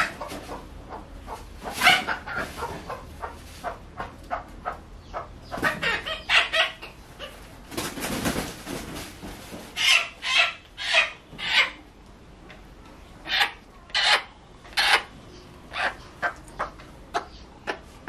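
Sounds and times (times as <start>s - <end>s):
chicken clucking: 0.0s - 18.0s.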